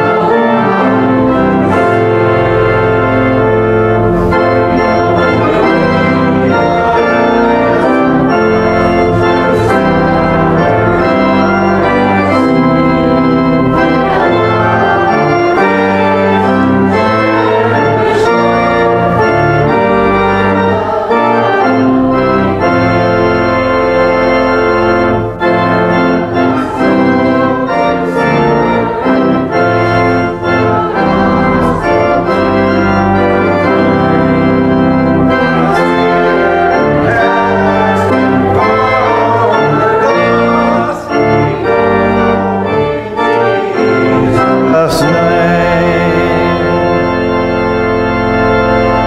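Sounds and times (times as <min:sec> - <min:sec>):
church organ playing hymn chords: 0:00.0 - 0:49.0.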